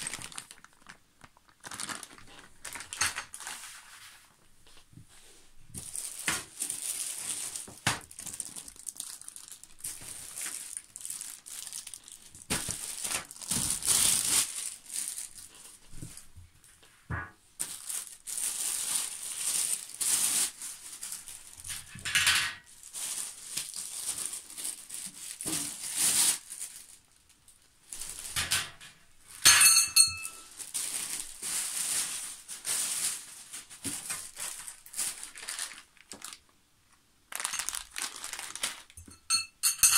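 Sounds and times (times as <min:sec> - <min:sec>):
plastic wrapping crinkling: 0:00.0 - 0:04.9, 0:05.7 - 0:16.9, 0:17.6 - 0:36.6, 0:37.3 - 0:39.5.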